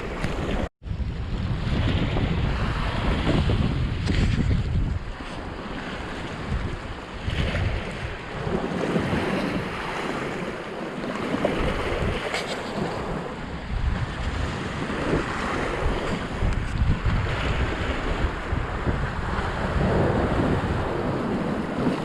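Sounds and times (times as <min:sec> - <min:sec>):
sea waves breaking on rocks: 0:00.0 - 0:22.0
wind buffeting microphone: 0:00.0 - 0:22.0.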